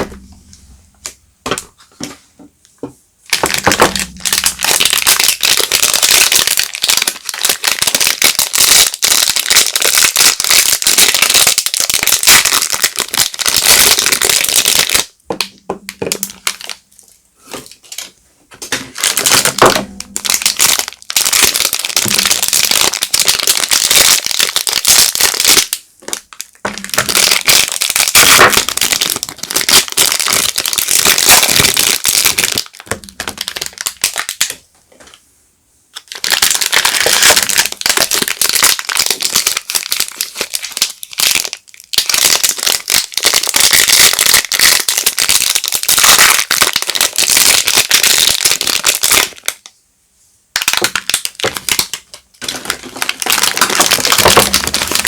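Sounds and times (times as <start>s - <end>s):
wrapper crinkling: 3.3s - 15.1s, 15.8s - 18.1s, 18.8s - 34.6s, 35.9s - 49.6s, 50.6s - 55.0s.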